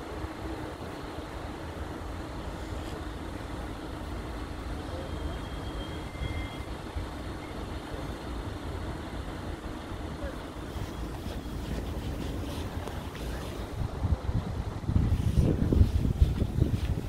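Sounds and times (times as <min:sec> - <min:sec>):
road traffic idling: 0:00.0 - 0:17.0.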